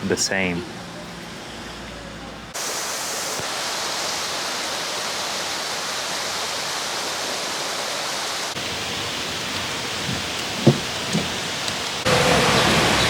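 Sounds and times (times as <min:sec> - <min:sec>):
waterfall rushing: 0:02.5 - 0:13.0.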